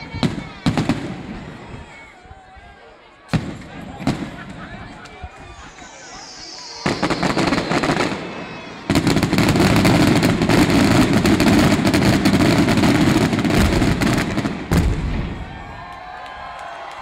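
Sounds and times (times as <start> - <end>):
fireworks bangs and crackling: 0.0 - 2.0, 3.3 - 15.7.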